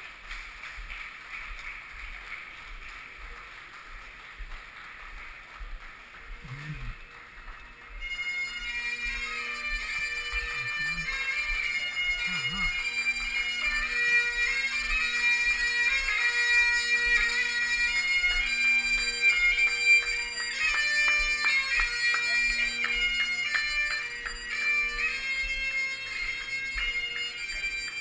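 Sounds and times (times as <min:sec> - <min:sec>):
bagpipes playing: 0:03.2 - 0:28.0.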